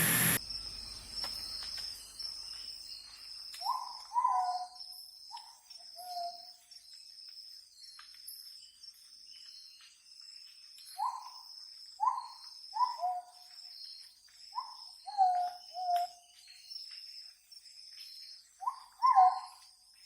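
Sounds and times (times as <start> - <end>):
insects pulsing chorus: 0.0 - 19.7.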